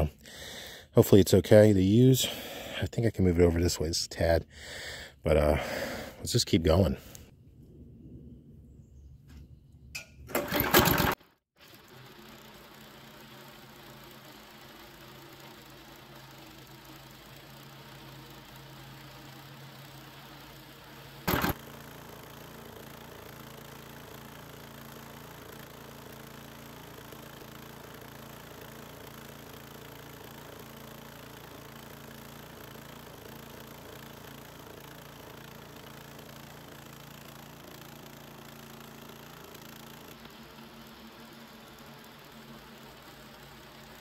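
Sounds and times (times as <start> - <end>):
small gasoline engine running: 2.0 - 2.8, 4.5 - 6.2, 10.3 - 44.0.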